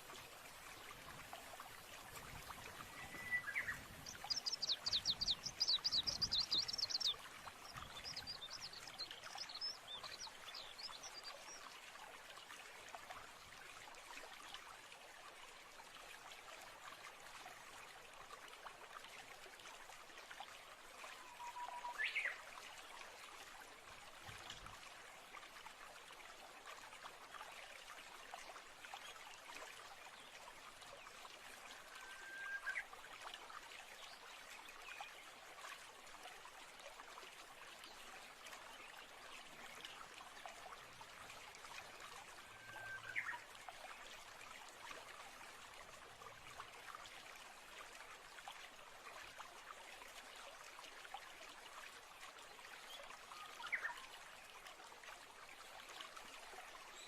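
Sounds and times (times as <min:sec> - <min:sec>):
faint stream trickling: 0:00.0 - 0:57.0.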